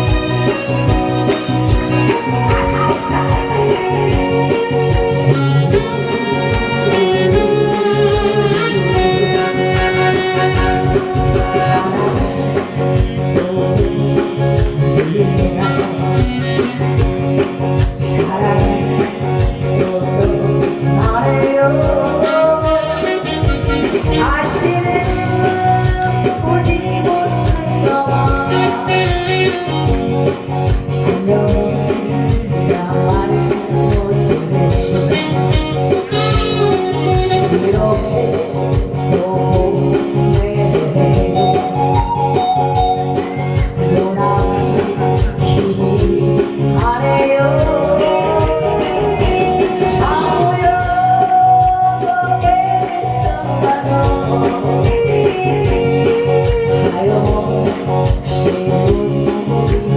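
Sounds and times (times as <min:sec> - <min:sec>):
music with beat and guitar: 0:00.0 - 0:59.9
person singing: 0:00.0 - 0:59.9.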